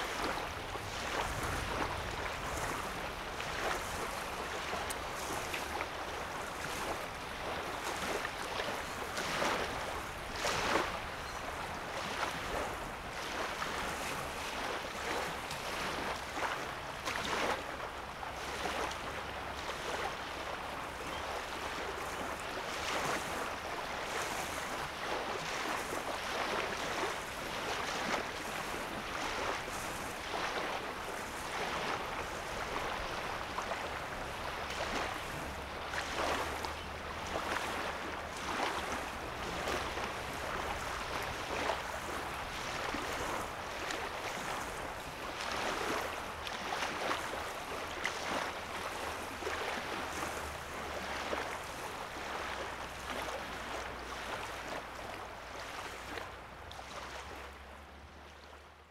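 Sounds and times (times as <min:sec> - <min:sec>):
wavelets lapping on sandy shore: 0:00.0 - 0:58.9.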